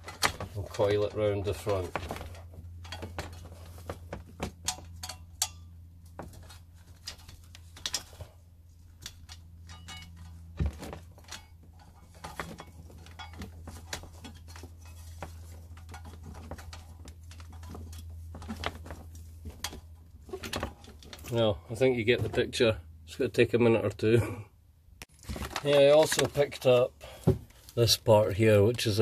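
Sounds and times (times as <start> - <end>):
steady low hum: 0.0 - 25.3.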